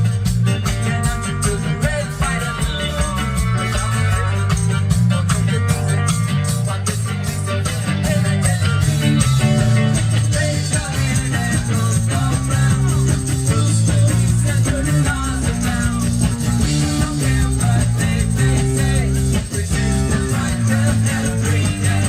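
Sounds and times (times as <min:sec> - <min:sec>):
heavy bass line: 0:00.0 - 0:22.0
live ska reggae band: 0:00.0 - 0:22.0.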